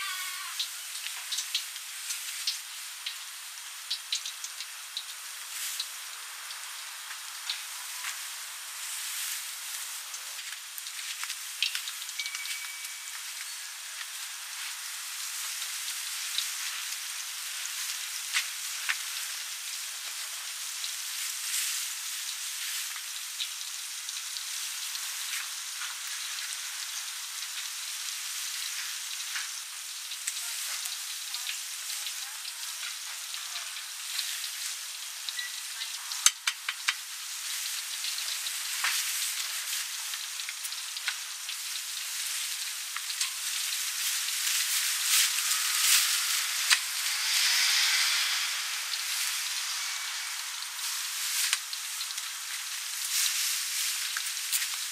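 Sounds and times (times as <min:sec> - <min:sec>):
food deep-frying in hot oil: 0:00.0 - 0:54.9.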